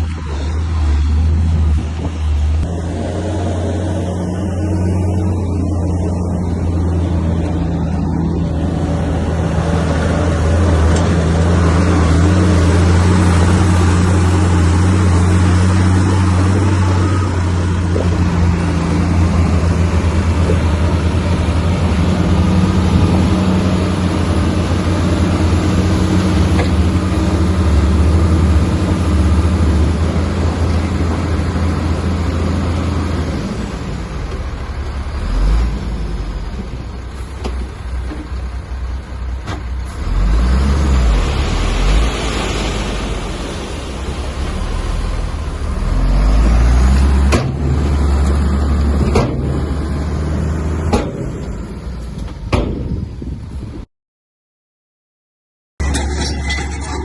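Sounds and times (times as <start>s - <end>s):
heavy machinery diesel engine: 0.0s - 53.9s, 55.8s - 57.0s.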